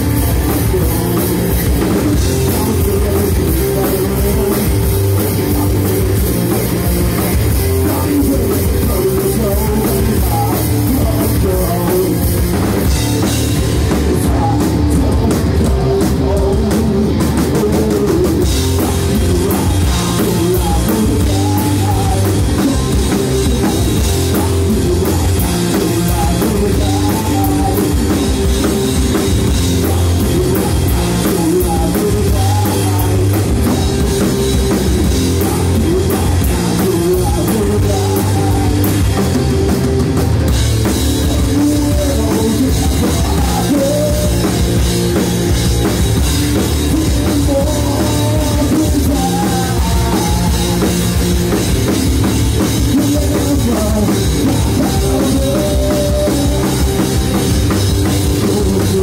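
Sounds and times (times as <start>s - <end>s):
drum kit: 0.0s - 59.0s
electric bass: 0.0s - 59.0s
electric guitar: 0.0s - 59.0s.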